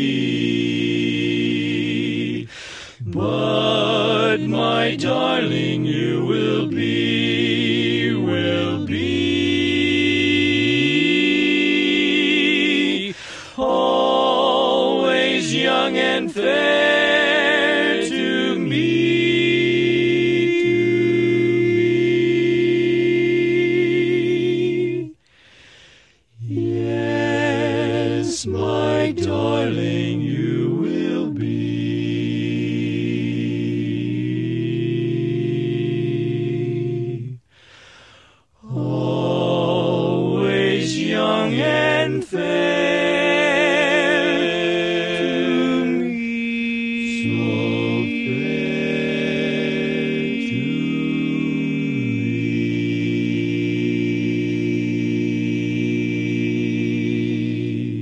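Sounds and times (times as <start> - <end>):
quartet singing in close harmony: 0.0 - 25.2, 26.3 - 37.4, 38.6 - 58.0.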